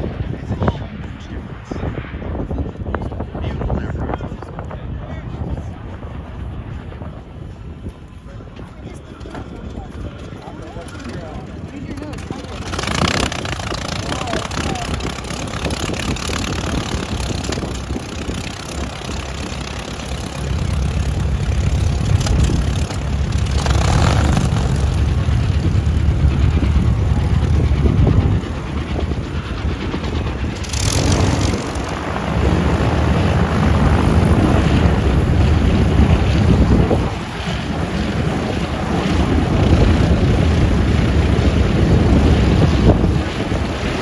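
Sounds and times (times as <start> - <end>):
helicopter rotor beat: 2.2 - 44.0.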